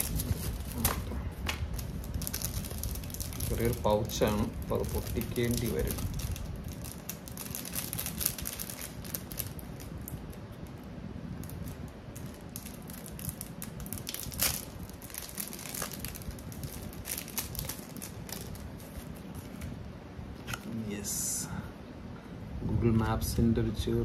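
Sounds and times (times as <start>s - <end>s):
packaging pouch crinkling: 0.0s - 19.8s.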